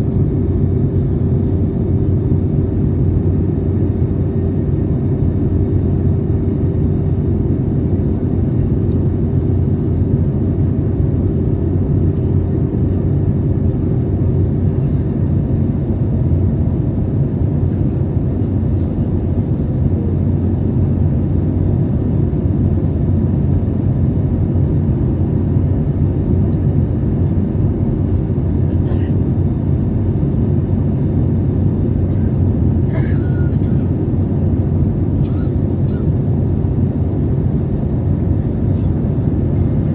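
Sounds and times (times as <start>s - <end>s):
aircraft engine and airflow drone: 0.0s - 39.9s
steady hum: 0.0s - 39.9s.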